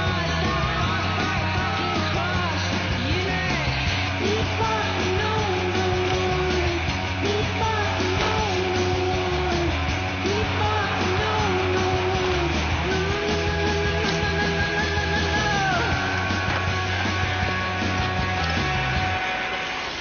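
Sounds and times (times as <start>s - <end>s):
person singing: 0.0s - 19.4s
rock music with distorted guitar: 0.0s - 20.0s.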